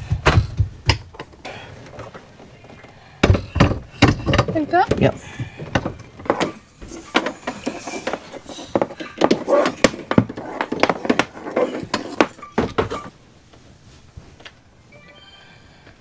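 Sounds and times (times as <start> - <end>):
belongings knocking and clattering: 0.0 - 14.6.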